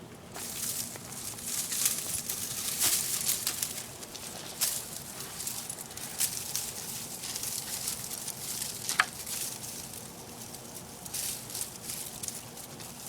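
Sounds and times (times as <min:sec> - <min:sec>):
dry palm frond rustling: 0:00.3 - 0:13.0.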